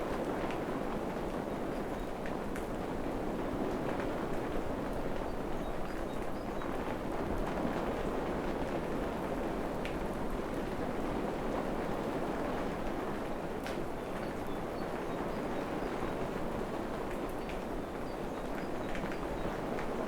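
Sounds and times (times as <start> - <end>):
rain falling on foliage: 0.0 - 20.0.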